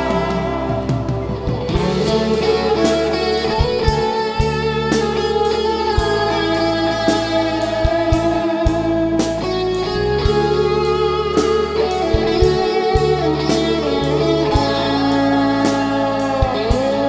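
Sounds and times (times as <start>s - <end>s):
bass and drums: 0.0s - 17.0s
electric guitar held notes: 0.0s - 17.0s.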